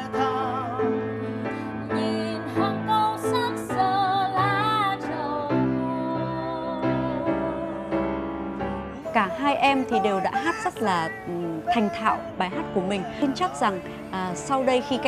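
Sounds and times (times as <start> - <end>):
grand piano: 0.0 - 15.0
woman singing a slow ballad: 0.0 - 15.0.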